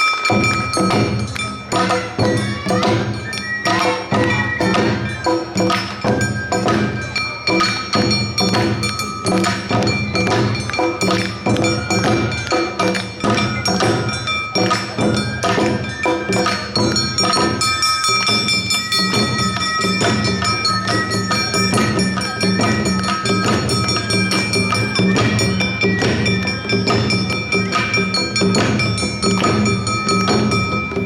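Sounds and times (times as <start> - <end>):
bamboo flute high notes: 0.0 - 31.0
taiko drums: 0.0 - 31.0.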